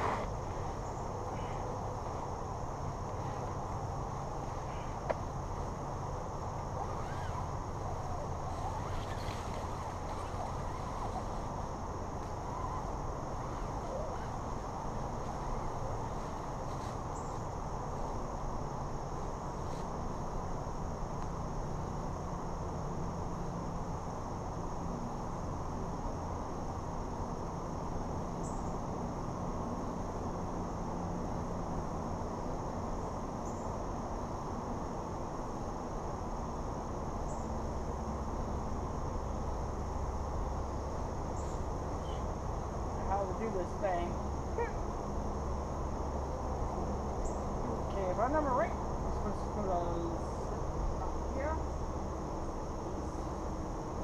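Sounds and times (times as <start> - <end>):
high-pitched insect chorus trilling: 0.0 - 54.0.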